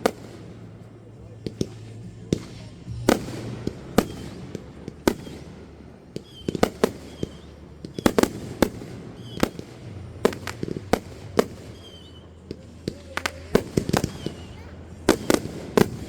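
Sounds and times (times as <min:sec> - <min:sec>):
fireworks bangs and pops: 0:00.0 - 0:16.0
fireworks whistling: 0:00.0 - 0:16.0.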